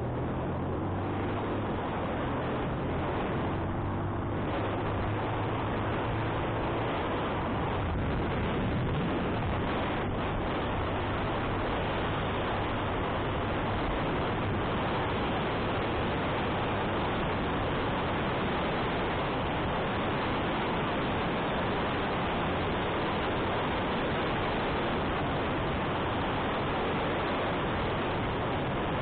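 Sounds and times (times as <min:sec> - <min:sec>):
motorcycle engine humming: 0:00.0 - 0:29.0
wind rushing over microphone: 0:00.0 - 0:29.0.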